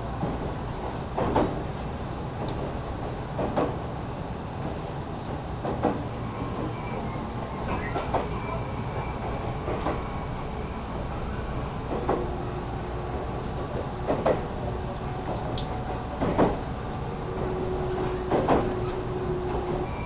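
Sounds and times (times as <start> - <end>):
train wheels rumbling on rail: 0.0 - 20.0
rail-joint clicks: 0.2 - 3.8, 4.6 - 10.0, 11.8 - 12.4, 13.5 - 20.0.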